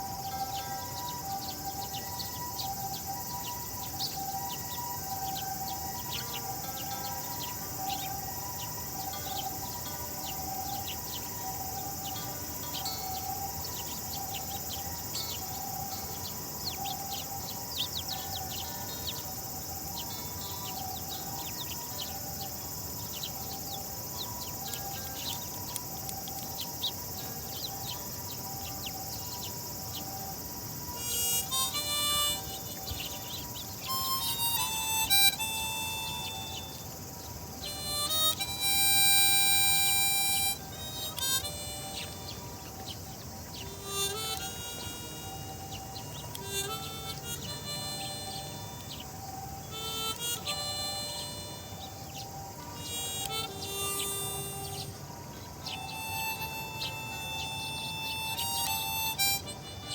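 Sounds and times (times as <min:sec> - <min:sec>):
sparrows chirping: 0:00.0 - 0:59.9
steady high hiss: 0:00.0 - 0:59.9
steady two-note tone: 0:00.0 - 0:59.9.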